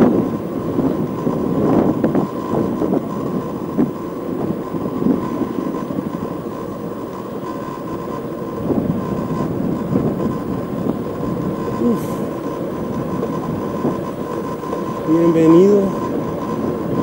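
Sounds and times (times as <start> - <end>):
passing vehicle rumble: 0.0 - 17.0.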